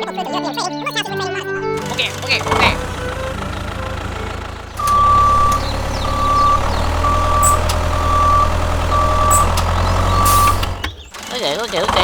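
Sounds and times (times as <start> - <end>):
low engine rumble: 1.3 - 12.0
vehicle reversing alarm beeping: 1.8 - 12.0.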